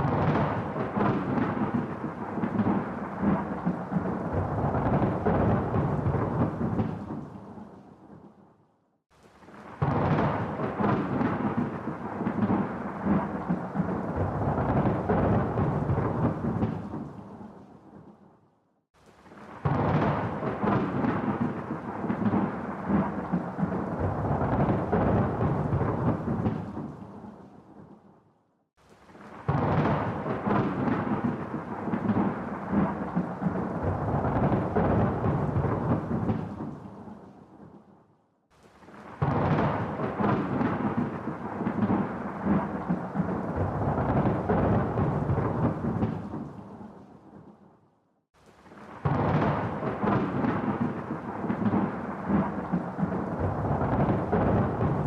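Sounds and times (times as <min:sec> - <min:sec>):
rolling thunder: 0:00.0 - 0:08.3, 0:09.7 - 0:18.0, 0:19.4 - 0:27.9, 0:29.3 - 0:37.7, 0:38.9 - 0:47.4, 0:48.7 - 0:55.0.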